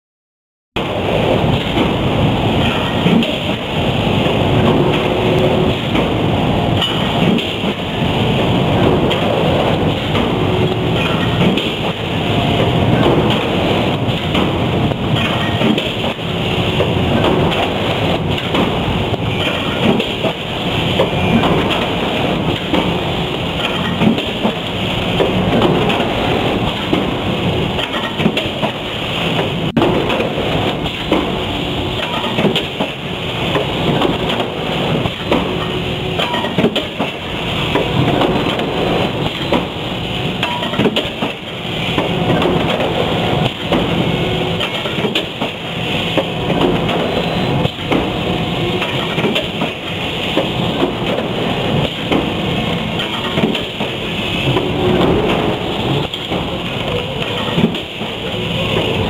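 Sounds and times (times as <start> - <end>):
factory machinery clatter: 0.8 - 59.0.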